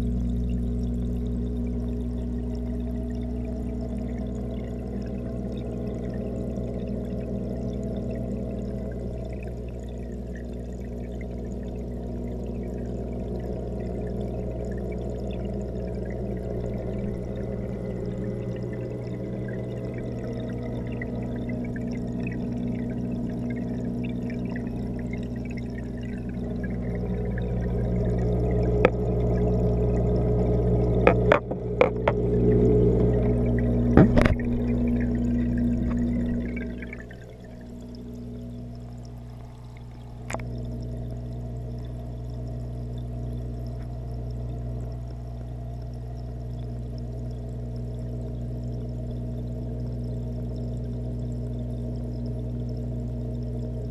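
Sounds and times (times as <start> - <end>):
low underwater hum: 0.0 - 53.9
water bubbles crackling: 0.0 - 53.9.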